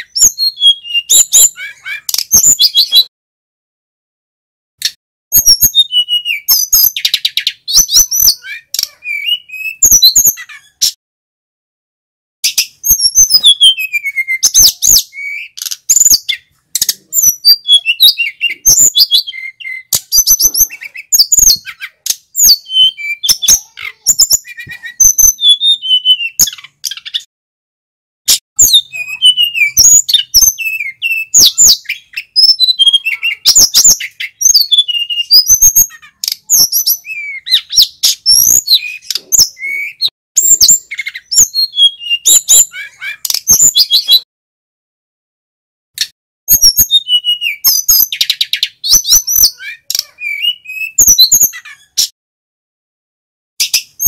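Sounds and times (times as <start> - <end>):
bird singing chirps and trills: 0.0 - 3.1, 4.8 - 11.0, 12.4 - 27.3, 28.6 - 44.3, 46.5 - 52.2.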